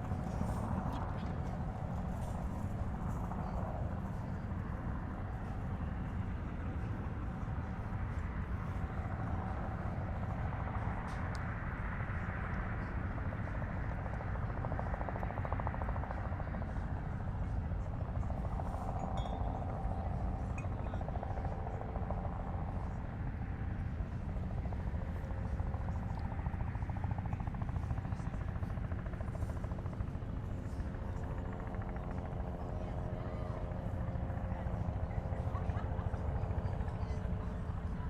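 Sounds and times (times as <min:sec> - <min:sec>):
helicopter rotor chop: 0:00.0 - 0:38.0.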